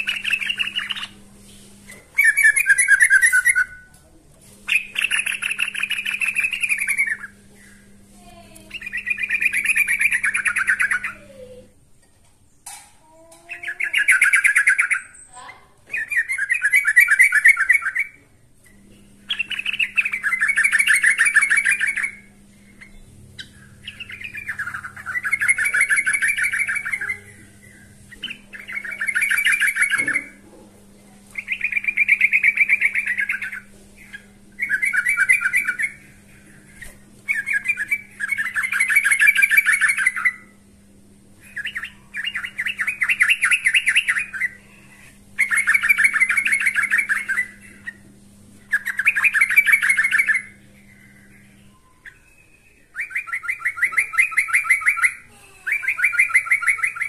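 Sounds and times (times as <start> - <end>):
bird singing chattering notes: 0.0 - 3.9, 4.6 - 11.7, 13.2 - 30.4, 31.3 - 40.7, 41.4 - 57.0.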